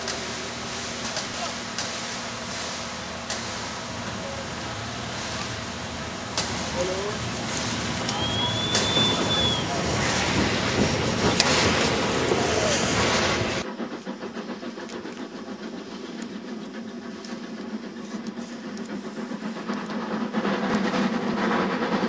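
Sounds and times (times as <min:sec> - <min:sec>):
steam train running: 0:00.0 - 0:22.0.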